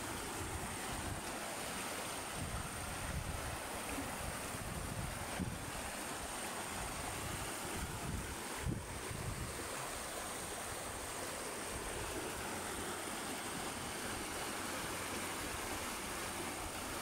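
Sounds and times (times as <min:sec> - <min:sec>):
river water rushing over rapids: 0:00.0 - 0:17.0.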